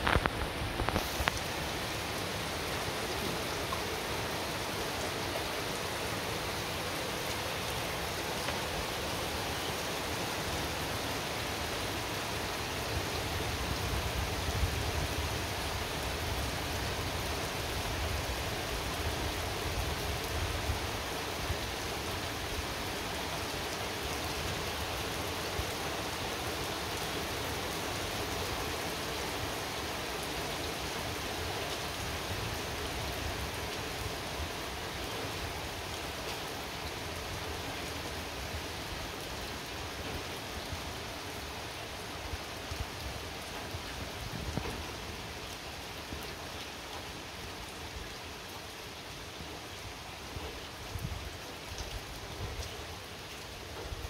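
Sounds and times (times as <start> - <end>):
heavy rain on roofs and pavement: 0.0 - 54.0.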